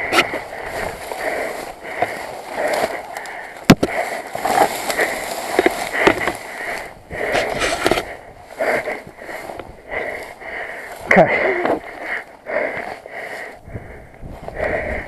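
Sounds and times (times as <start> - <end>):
rustling and scraping in dry grass: 0.0 - 13.6.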